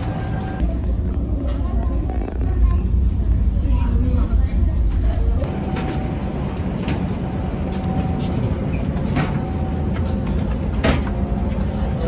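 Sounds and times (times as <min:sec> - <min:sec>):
ferry machinery rumble: 0:00.0 - 0:12.0.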